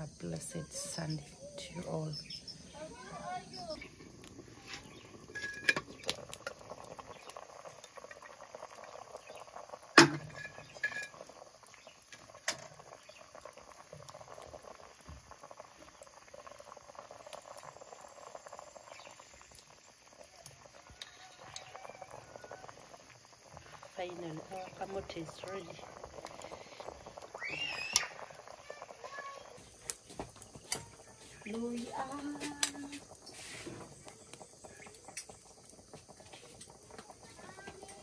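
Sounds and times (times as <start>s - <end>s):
pot boiling and bubbling: 0.0s - 38.0s.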